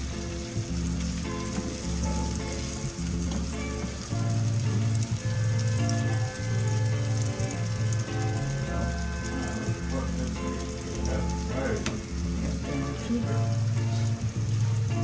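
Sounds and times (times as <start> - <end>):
background music with bass: 0.0 - 15.0
food sizzling in a frying pan: 0.0 - 15.0.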